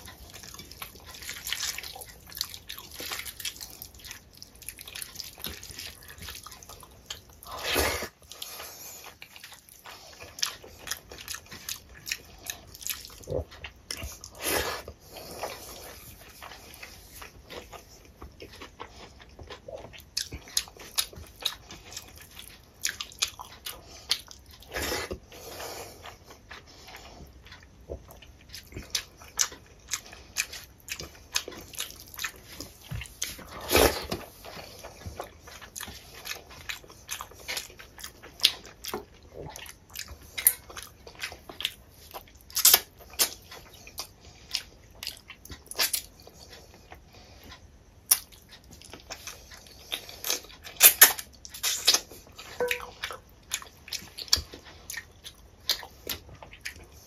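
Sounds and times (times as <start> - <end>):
wet chewing and lip smacks: 0.0 - 57.0.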